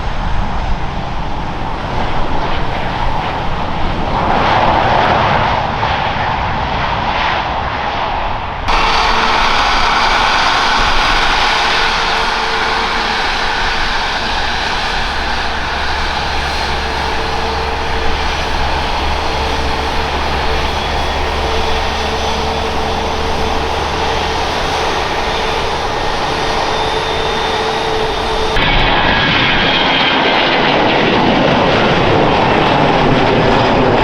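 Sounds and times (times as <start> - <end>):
steady engine tone: 0.0 - 6.7, 8.5 - 34.0
jet engines roaring: 0.0 - 34.0.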